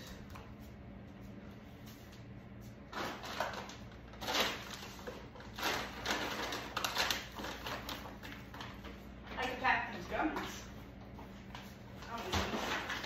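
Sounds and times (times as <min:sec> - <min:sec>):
rustling and knocking of packages: 0:02.2 - 0:13.0.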